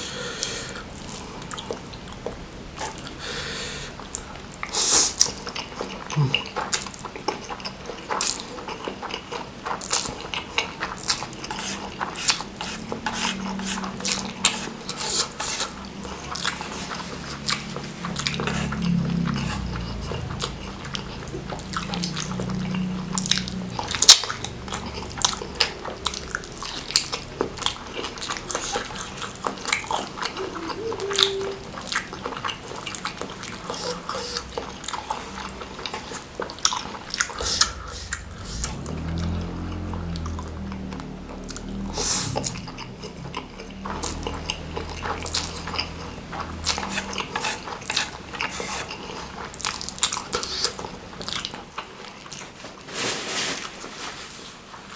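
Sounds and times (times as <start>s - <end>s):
close chewing and biting: 0.0s - 3.3s, 3.9s - 52.9s.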